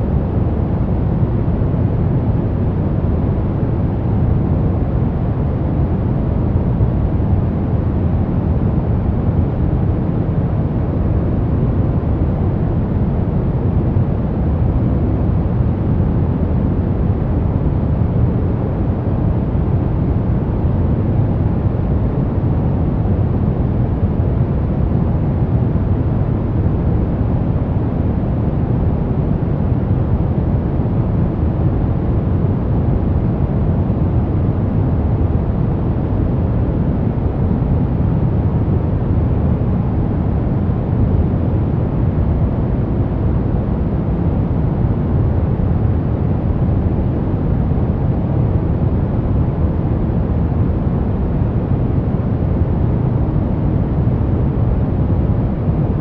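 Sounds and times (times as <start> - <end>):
deep rumbling white noise: 0.0 - 56.0.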